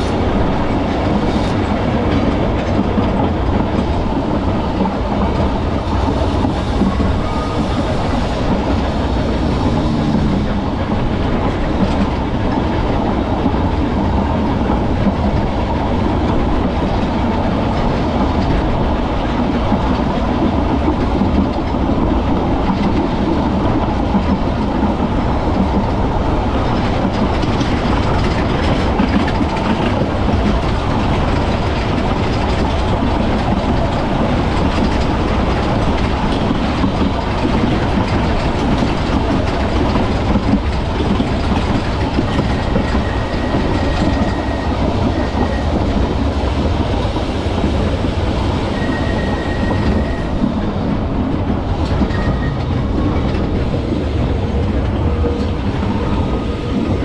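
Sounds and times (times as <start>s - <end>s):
tram wheels running on rails: 0.0s - 57.0s.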